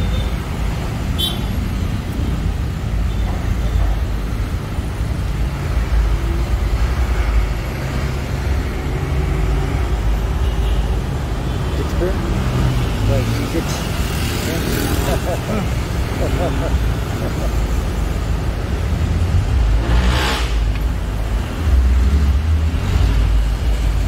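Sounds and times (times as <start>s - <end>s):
low rumble of road traffic: 0.0s - 24.0s.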